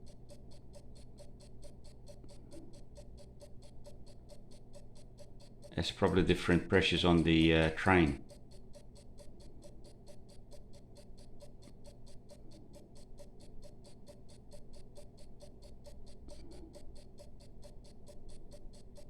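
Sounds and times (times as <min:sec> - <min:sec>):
faint steady hum: 0:00.0 - 0:19.0
mechanical clock ticking: 0:00.0 - 0:19.0.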